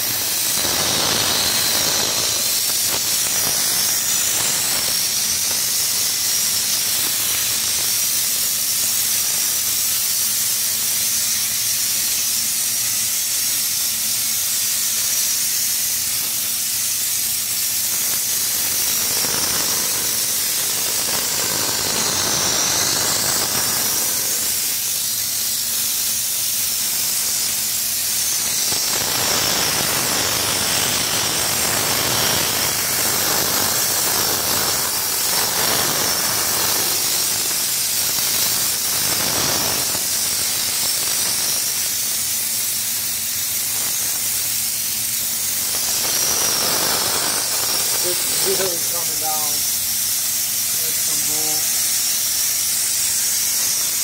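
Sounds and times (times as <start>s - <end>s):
spray gun air hiss: 0.0s - 54.0s.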